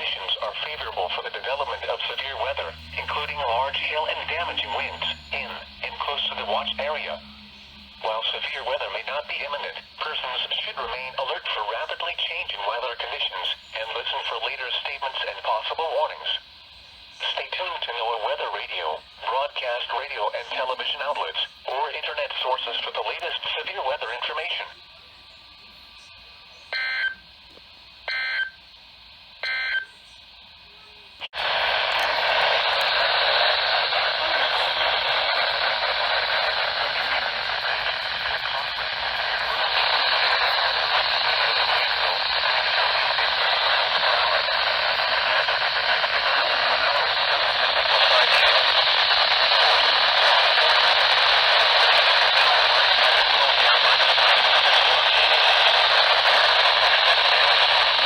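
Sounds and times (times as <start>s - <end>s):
loud static hiss: 0.0s - 58.0s.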